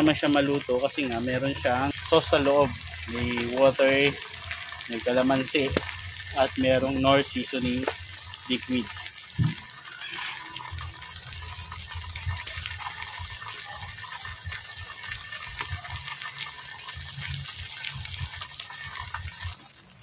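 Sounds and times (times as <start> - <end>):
faint crackles: 0.0 - 20.0
steady rushing hiss: 0.0 - 20.0.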